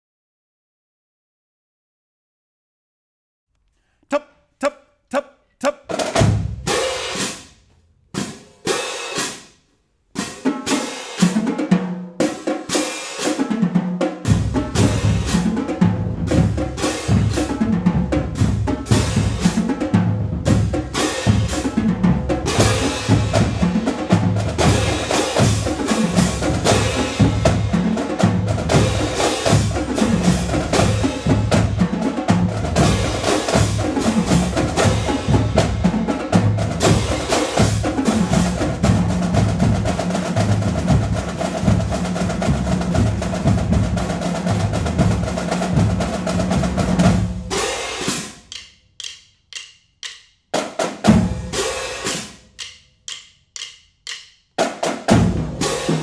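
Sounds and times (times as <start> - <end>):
marching drumline cadence: 4.1 - 9.6, 10.2 - 56.0.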